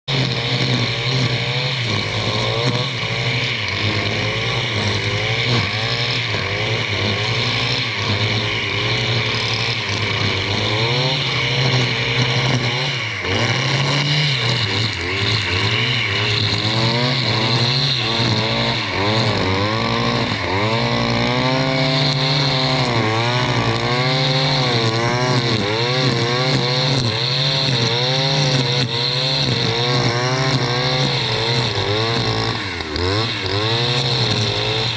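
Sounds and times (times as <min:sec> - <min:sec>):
brushcutter engine cutting undergrowth: 0:00.0 - 0:34.9.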